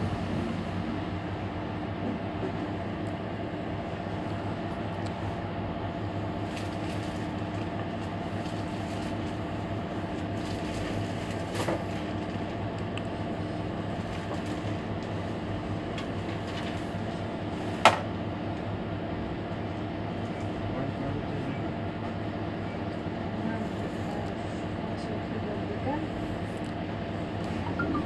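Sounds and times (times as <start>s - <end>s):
bus engine humming: 0.0s - 28.0s.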